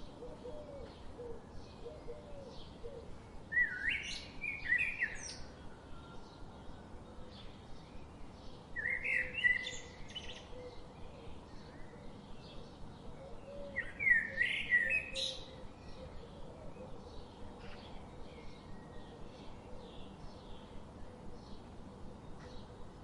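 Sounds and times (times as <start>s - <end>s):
faint bird chirping: 0.0s - 23.0s.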